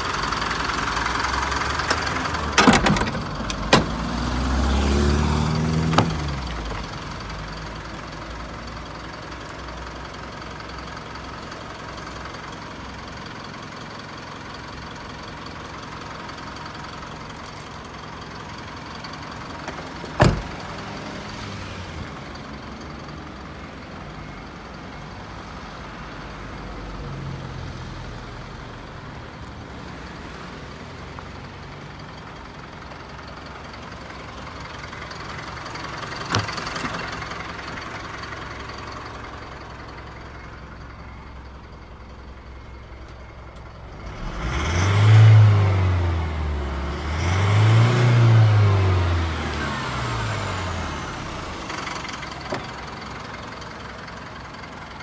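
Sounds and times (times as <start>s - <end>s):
truck engine idling and revving: 0.0s - 55.0s.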